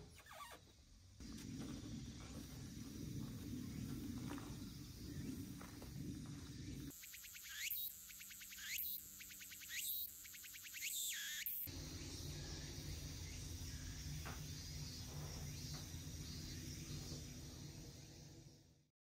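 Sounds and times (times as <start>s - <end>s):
low outdoor noise: 0.0s - 18.9s.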